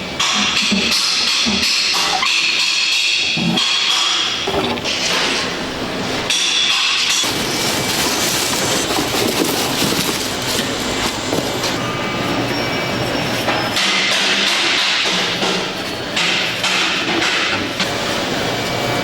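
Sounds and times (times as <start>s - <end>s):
steady harsh workshop noise: 0.0s - 19.0s.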